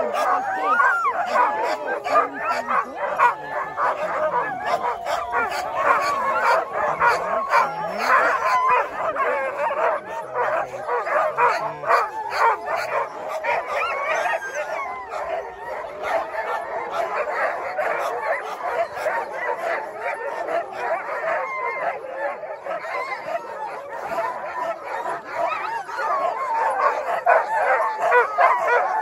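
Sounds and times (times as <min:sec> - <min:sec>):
dogs barking and whining: 0:00.0 - 0:29.0.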